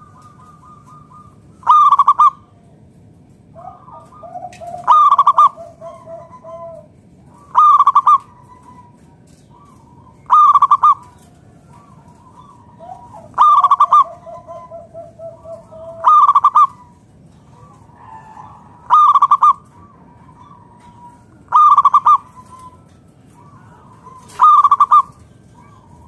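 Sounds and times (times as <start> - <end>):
zebra dove cooing: 0.0 - 2.9, 3.5 - 26.0.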